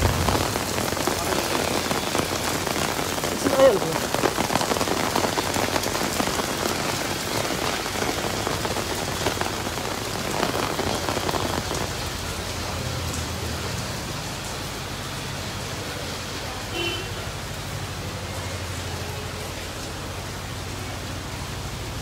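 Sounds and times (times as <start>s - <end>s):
heavy rain and hail on pavement: 0.0s - 22.0s.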